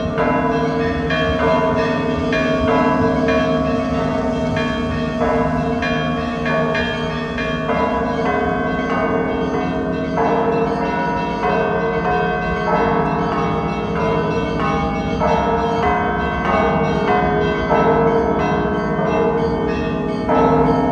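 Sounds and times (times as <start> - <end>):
large bells ringing: 0.0 - 20.9.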